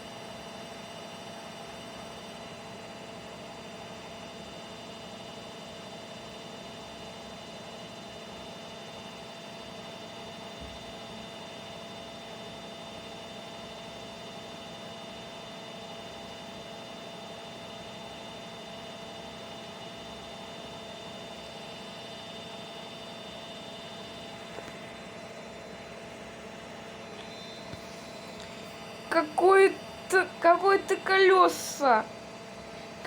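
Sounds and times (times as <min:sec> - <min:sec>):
washing machine humming: 0:00.0 - 0:33.0.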